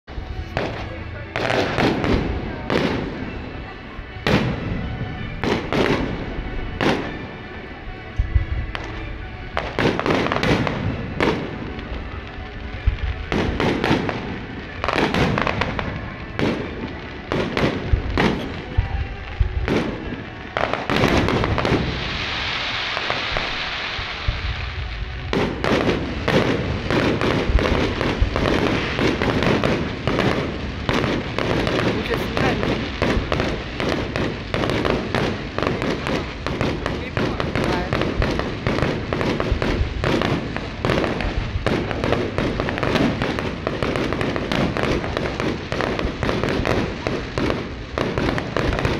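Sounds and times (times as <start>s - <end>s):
fireworks crackling: 0.0s - 48.9s
dense hissing crackle: 0.1s - 48.9s
fireworks bangs: 0.1s - 48.9s.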